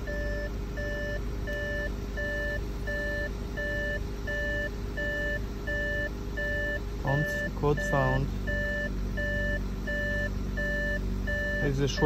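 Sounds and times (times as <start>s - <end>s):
low steady hum: 0.0s - 12.0s
electronic warning beeper: 0.1s - 12.0s.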